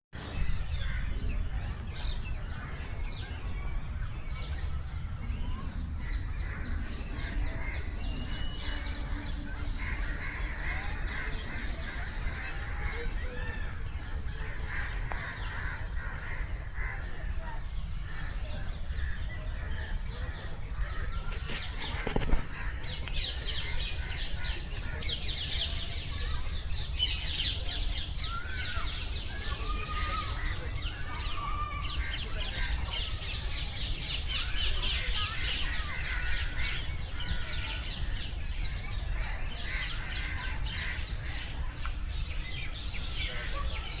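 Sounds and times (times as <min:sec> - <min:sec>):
birds chirping: 0:00.2 - 0:44.0.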